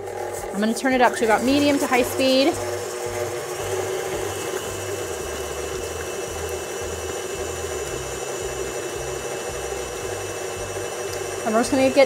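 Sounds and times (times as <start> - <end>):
stand mixer running: 0.0 - 12.0.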